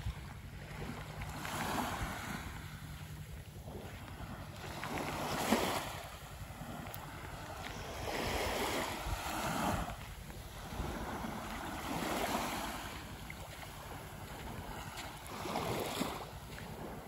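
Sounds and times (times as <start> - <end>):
waves lapping on sand: 0.0 - 17.0
wind rumble on microphone: 0.0 - 17.0.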